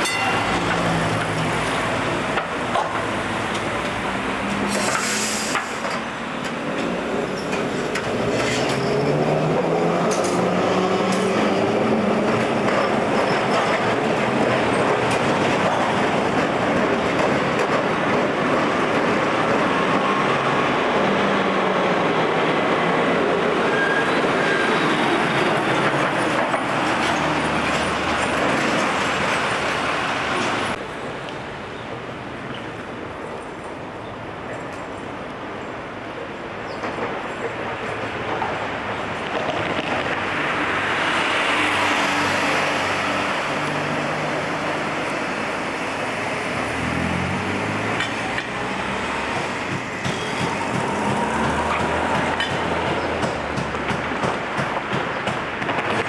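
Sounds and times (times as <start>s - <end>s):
trams and cars running: 0.0s - 56.0s.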